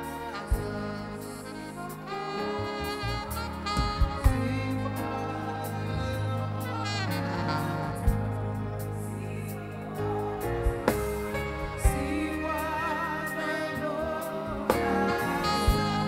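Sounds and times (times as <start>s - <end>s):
gospel band music: 0.0s - 16.0s.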